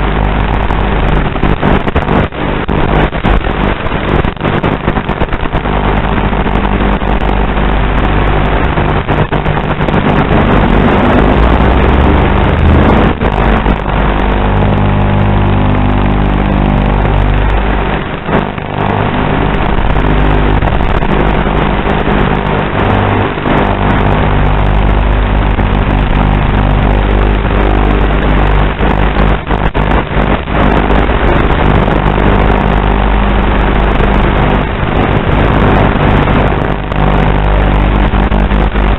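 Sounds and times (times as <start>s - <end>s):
drone motors buzzing: 5.6s - 38.9s.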